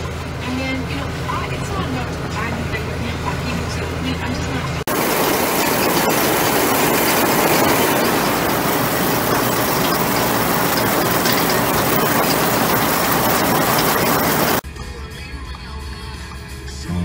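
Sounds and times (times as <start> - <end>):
steady engine noise: 0.0 - 14.6.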